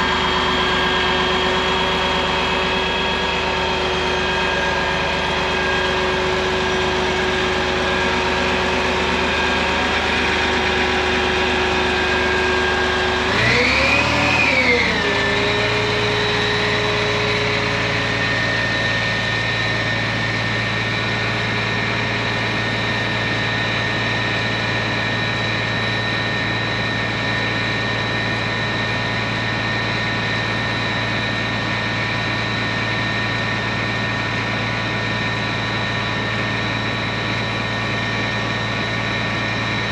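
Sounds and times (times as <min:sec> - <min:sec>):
diesel engine running: 0:00.0 - 0:39.9
steady whine: 0:00.0 - 0:39.9.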